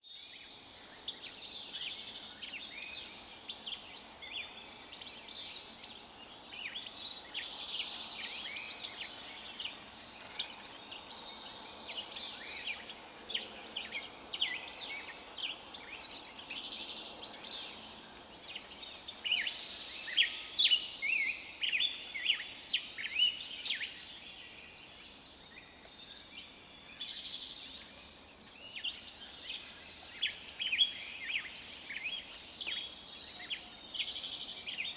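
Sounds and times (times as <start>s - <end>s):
songbirds chirping: 0.0s - 34.9s
faint steady hiss: 0.2s - 34.9s.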